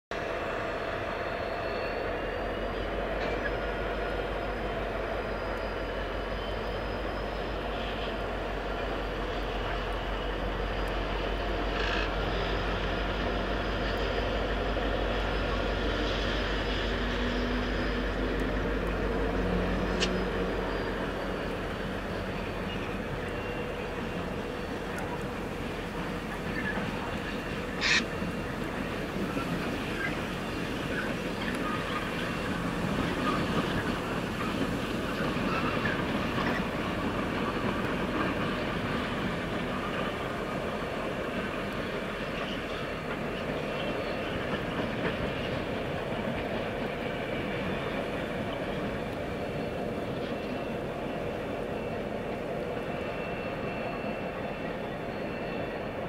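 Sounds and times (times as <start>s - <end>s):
diesel locomotive engine rumble: 0.1s - 56.0s.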